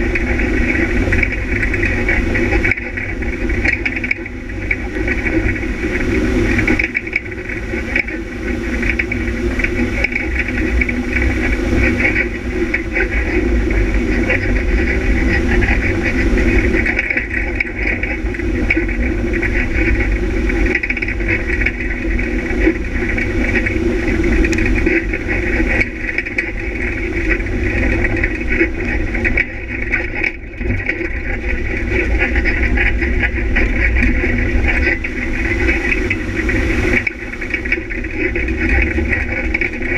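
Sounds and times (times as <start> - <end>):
off-road vehicle engine running: 0.0 - 39.9
vehicle rattling over rough ground: 0.0 - 39.9.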